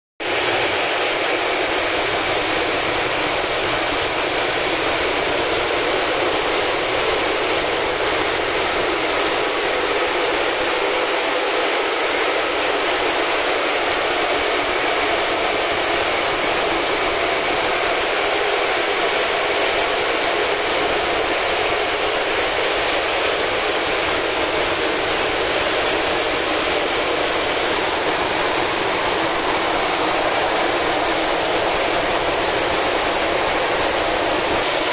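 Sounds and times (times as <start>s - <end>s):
sorting machine dense hiss: 0.2s - 34.9s.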